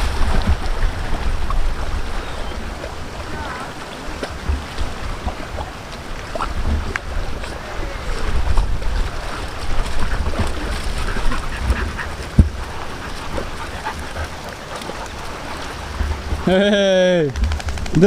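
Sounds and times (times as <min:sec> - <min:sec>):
water sloshing and lapping: 0:00.0 - 0:18.0
wind buffeting the microphone: 0:00.0 - 0:18.0.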